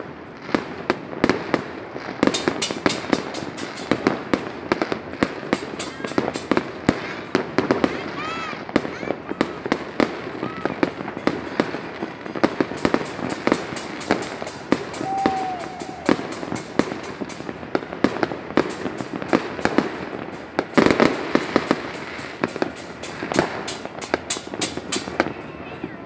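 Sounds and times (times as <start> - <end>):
fireworks popping and banging: 0.0 - 26.0.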